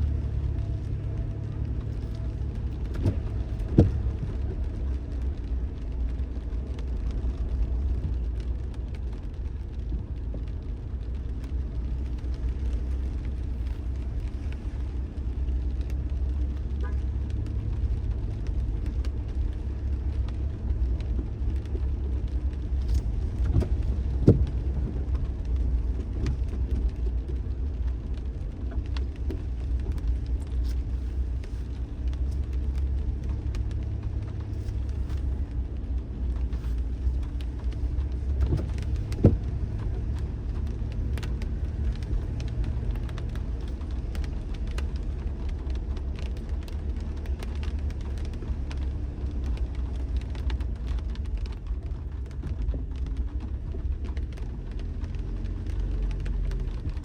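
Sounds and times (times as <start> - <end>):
car road rumble: 0.0 - 57.0.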